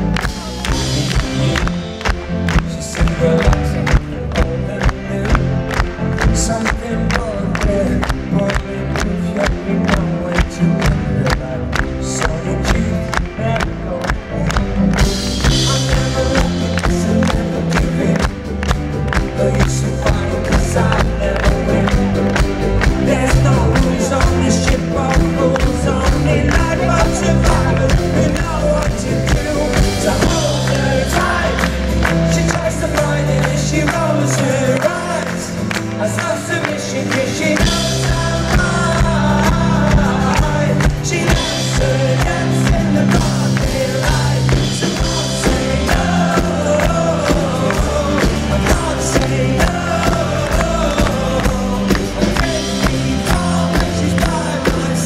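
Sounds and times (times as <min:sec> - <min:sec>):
bass guitar: 0:00.0 - 0:55.0
drums keeping a steady beat: 0:00.0 - 0:55.0.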